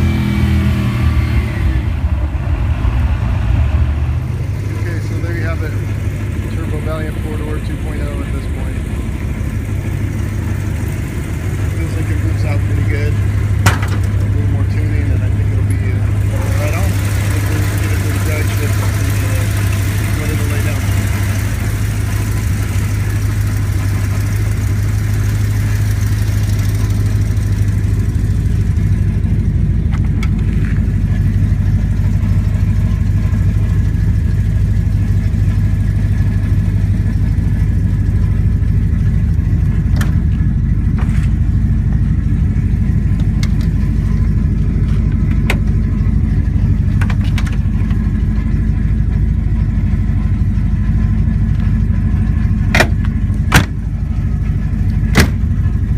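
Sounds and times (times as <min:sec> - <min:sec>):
car engine running steadily: 0:00.0 - 0:55.9.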